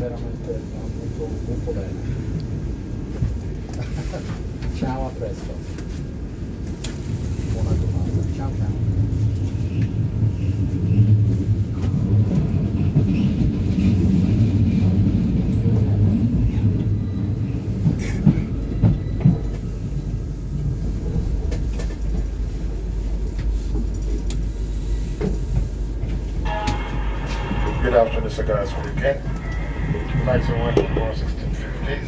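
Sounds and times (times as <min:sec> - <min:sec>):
train carriage rumble: 0:00.0 - 0:32.0.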